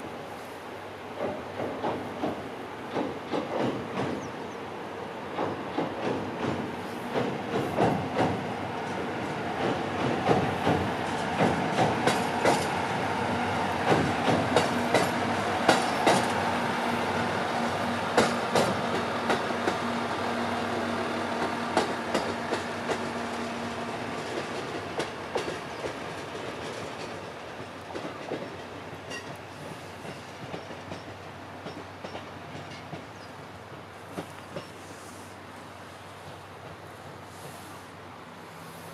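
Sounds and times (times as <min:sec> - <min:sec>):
train wheels clacking over rails: 0:01.0 - 0:04.6, 0:05.2 - 0:35.5, 0:36.1 - 0:37.8.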